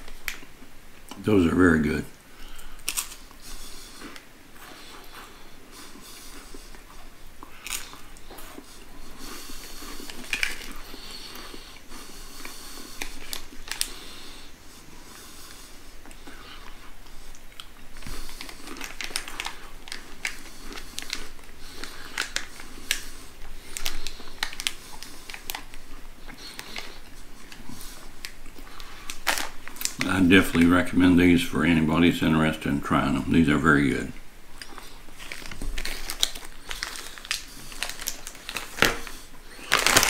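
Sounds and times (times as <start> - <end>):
person chewing crunchy crackers: 0.0 - 1.2, 2.4 - 30.9, 34.2 - 40.0
plastic snack packet crinkling: 1.1 - 14.5, 15.3 - 40.0.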